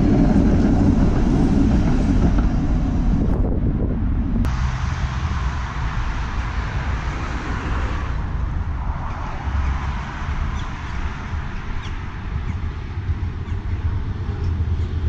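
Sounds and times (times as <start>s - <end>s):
cars passing: 0.0s - 15.0s
deep traffic rumble: 0.0s - 15.0s.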